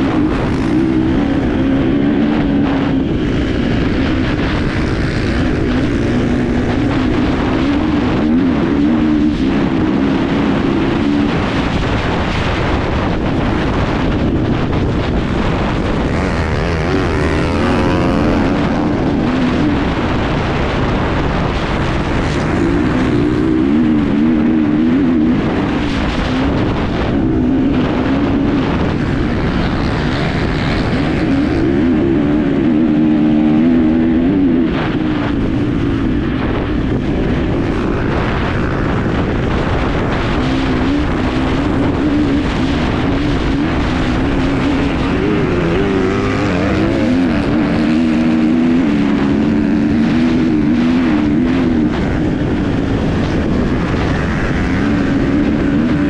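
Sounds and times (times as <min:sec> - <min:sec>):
motorcycle engine revving: 0:00.0 - 0:56.0
rushing noise: 0:00.0 - 0:56.0.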